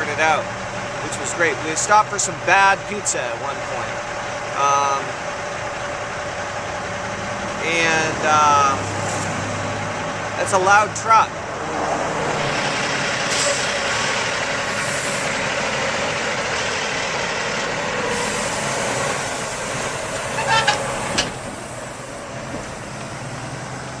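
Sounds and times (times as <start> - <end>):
heavy truck passing: 0.0 - 24.0.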